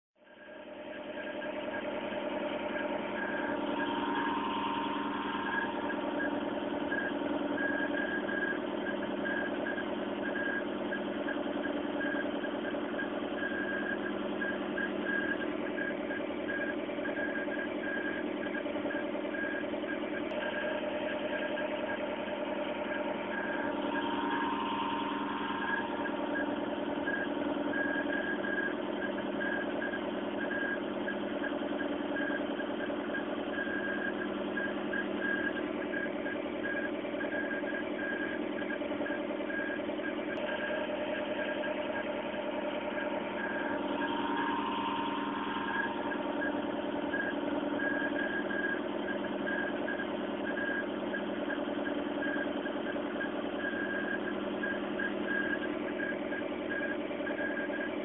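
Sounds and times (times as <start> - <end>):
vehicle engine running: 0.2 - 58.0.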